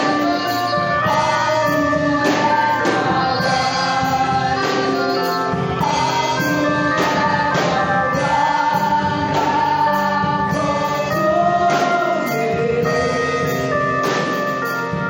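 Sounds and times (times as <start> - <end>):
choir singing held notes: 0.0 - 15.0
gospel band playing: 0.0 - 15.0
percussion strikes: 0.0 - 15.0.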